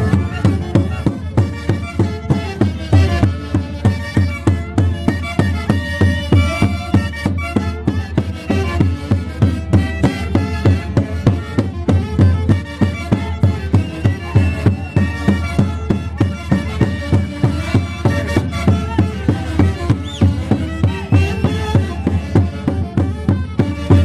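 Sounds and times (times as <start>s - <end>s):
band playing melody with bass beat: 0.0s - 24.0s.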